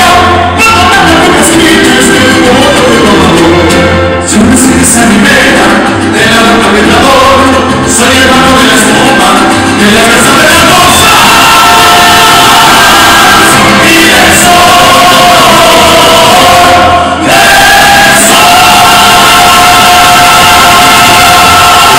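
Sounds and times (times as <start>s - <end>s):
people singing: 0.0s - 3.6s, 4.6s - 21.9s
mariachi band with orchestra: 0.0s - 21.9s.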